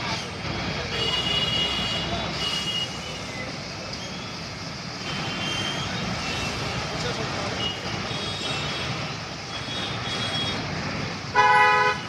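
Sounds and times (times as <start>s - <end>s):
heavy engine rumble: 0.0s - 11.4s
passing road traffic: 0.0s - 12.0s.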